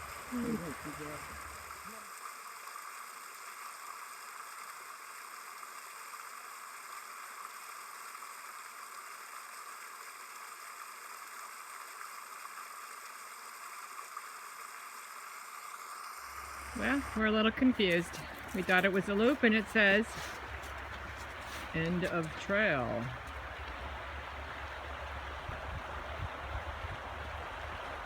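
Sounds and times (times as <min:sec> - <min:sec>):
stream flowing over rocks: 0:00.0 - 0:28.0.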